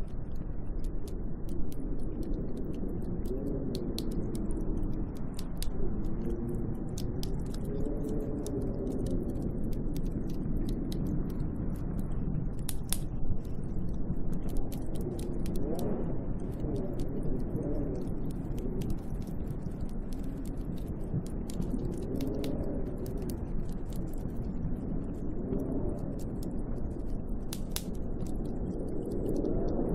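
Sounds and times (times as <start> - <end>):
wind howling: 0.0 - 29.9
sharp ticks: 0.2 - 24.5, 26.2 - 29.5.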